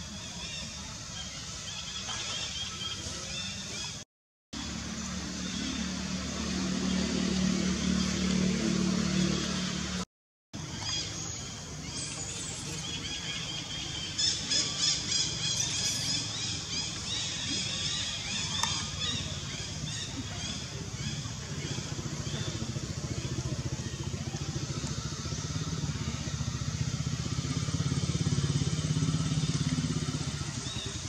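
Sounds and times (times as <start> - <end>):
vehicle engine hum: 4.6 - 31.0.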